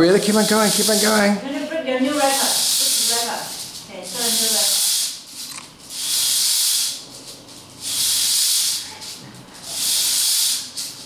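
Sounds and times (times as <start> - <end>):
hula hoop swishing: 0.2 - 11.0.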